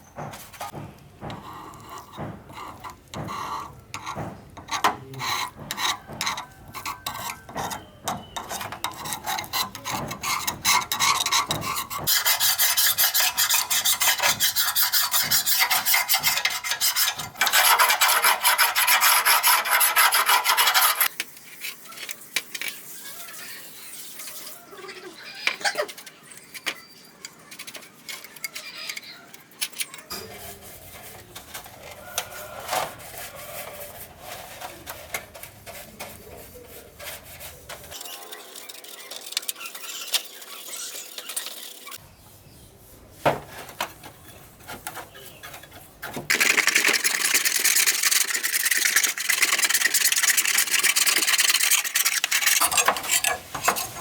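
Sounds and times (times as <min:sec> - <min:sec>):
scraping rusty metal: 0:00.7 - 0:21.1, 0:29.8 - 0:42.0, 0:42.8 - 0:54.0.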